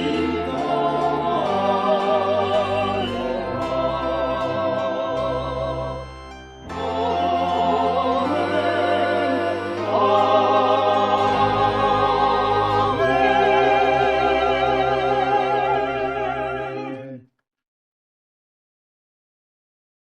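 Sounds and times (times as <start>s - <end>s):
choir singing a hymn: 0.0s - 17.2s
low accompaniment: 0.0s - 17.2s.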